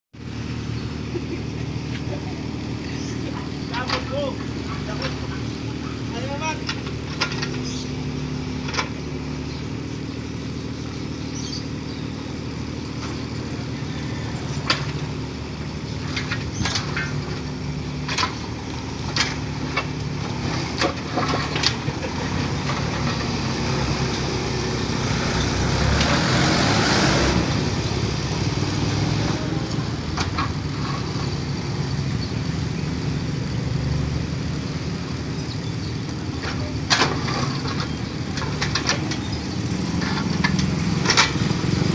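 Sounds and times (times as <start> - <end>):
backhoe engine running: 0.2 - 41.9.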